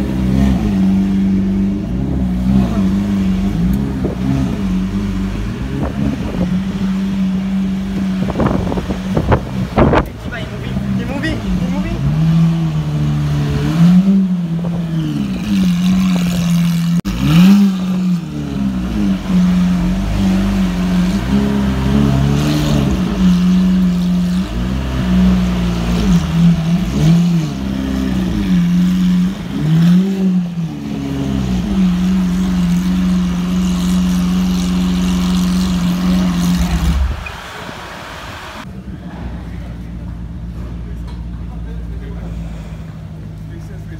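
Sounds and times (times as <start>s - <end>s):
car engine idling: 0.0s - 43.9s
engine throttle blips: 0.0s - 43.9s.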